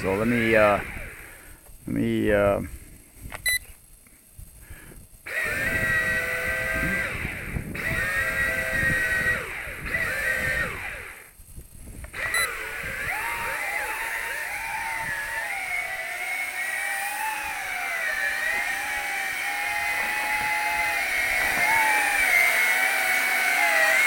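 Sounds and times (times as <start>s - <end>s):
electric motors and propellers whining: 0.0s - 24.0s.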